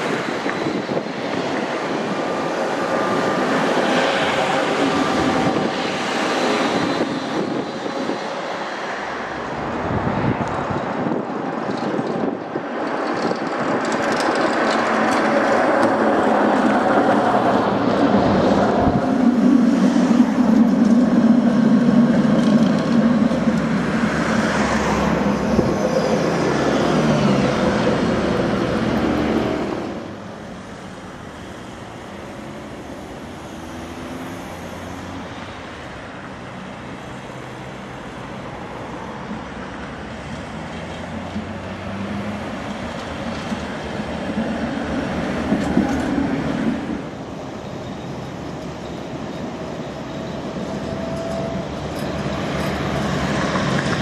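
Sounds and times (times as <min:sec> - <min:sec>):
street traffic: 0:00.0 - 0:54.0
tram approaching: 0:00.0 - 0:54.0
tram wheel noise: 0:00.0 - 0:54.0.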